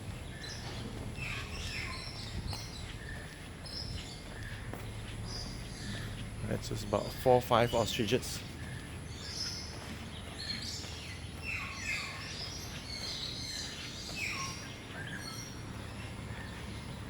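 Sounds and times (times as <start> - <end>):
birds calling and chirping: 0.0 - 17.0.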